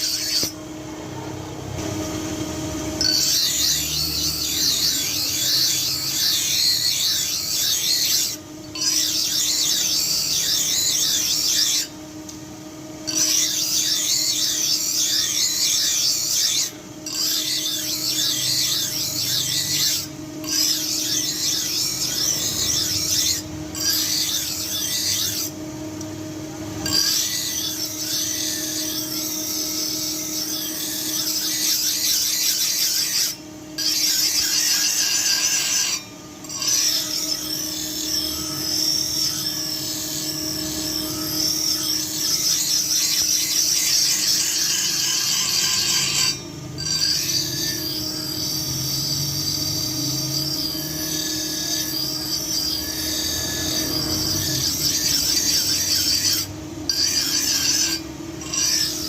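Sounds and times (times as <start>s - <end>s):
steel tool scraping on abrasive: 0.0s - 1.8s, 2.4s - 59.0s.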